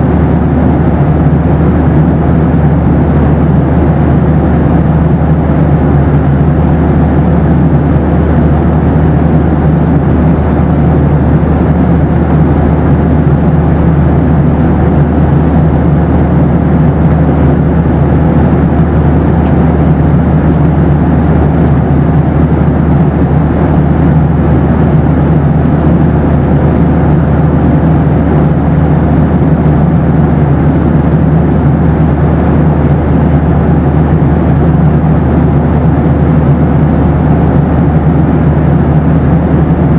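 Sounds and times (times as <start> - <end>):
airplane cabin drone: 0.0 - 39.9
faint steady hum: 0.0 - 39.9.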